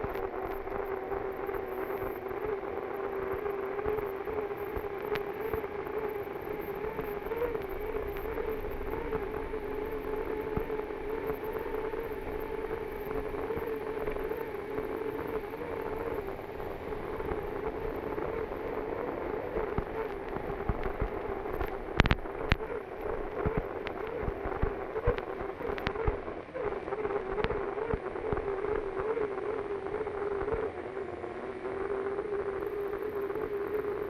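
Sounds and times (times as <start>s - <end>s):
turbine engine whine: 0.0s - 34.0s.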